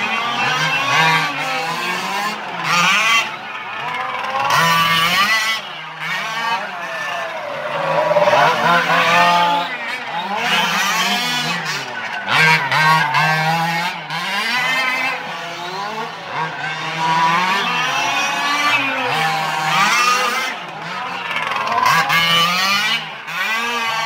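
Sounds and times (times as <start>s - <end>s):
rc car engines revving: 0.0s - 24.0s.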